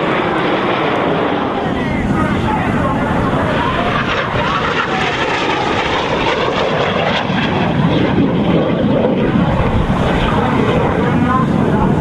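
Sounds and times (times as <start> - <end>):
jet flying past: 0.0 - 12.0.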